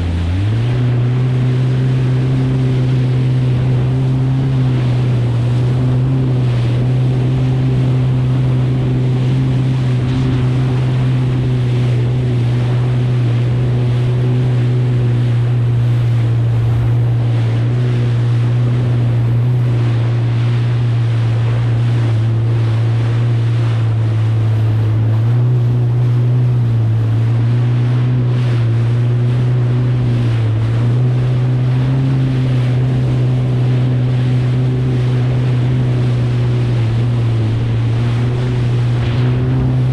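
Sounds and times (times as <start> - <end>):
jet ski engine running: 0.0 - 39.9
rushing water: 0.0 - 39.9
wind noise on microphone: 0.0 - 39.9.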